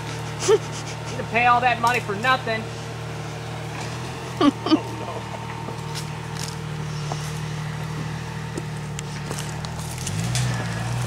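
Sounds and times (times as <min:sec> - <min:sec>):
suv engine at low revs: 0:00.0 - 0:11.0.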